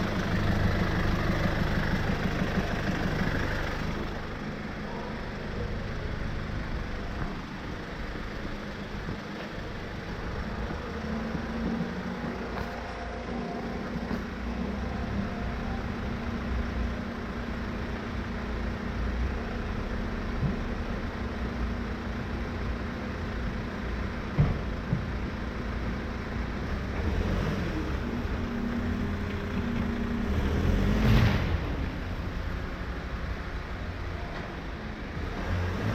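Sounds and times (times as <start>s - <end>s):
truck engine droning: 0.0s - 35.9s.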